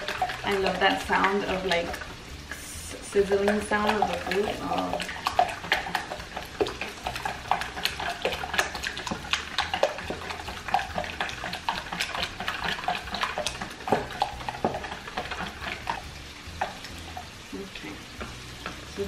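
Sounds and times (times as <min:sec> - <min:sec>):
whisk tapping metal bowl: 0:00.0 - 0:02.1, 0:03.1 - 0:17.2
eggs sloshing: 0:00.0 - 0:17.4.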